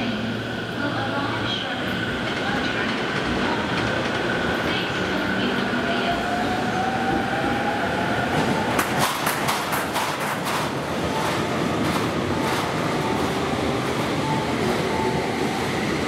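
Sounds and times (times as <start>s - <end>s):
electric train accelerating: 1.8s - 16.0s.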